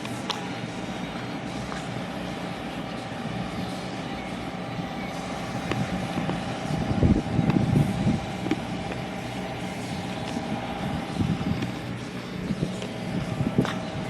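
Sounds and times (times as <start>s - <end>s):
engine running: 0.0s - 14.0s
low rumble of motor passing: 0.0s - 14.0s.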